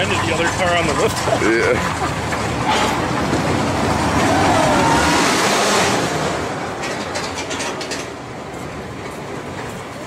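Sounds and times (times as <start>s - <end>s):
roller coaster rumble: 0.0s - 10.0s
track clacks: 0.0s - 10.0s.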